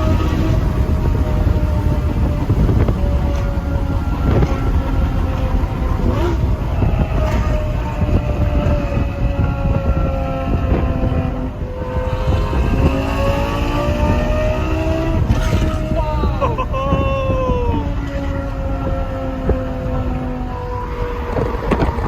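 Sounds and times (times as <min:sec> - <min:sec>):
car engine heard from cabin: 0:00.0 - 0:22.0.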